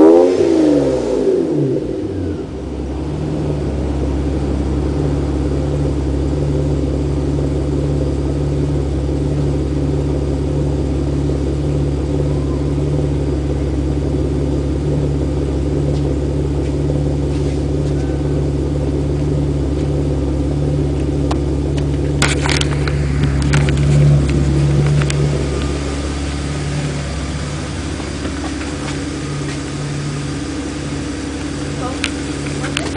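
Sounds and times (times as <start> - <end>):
car exhaust idling: 0.0 - 32.9.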